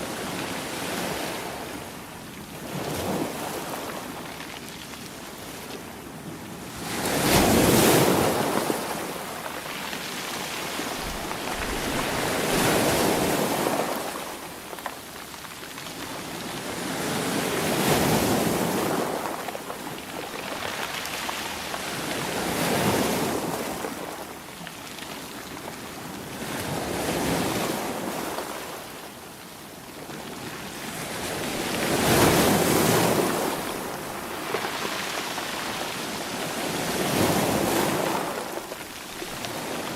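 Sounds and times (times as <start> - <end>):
sea waves washing on shore: 0.0 - 29.2, 30.0 - 39.9.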